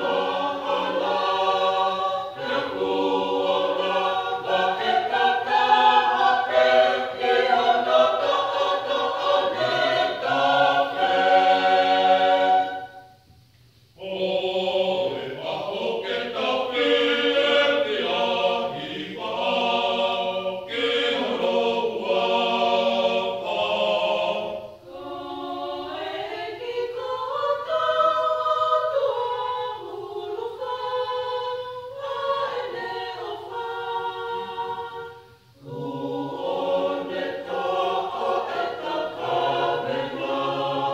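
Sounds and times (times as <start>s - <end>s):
choir singing a hymn unaccompanied: 0.0s - 13.2s, 14.0s - 40.9s.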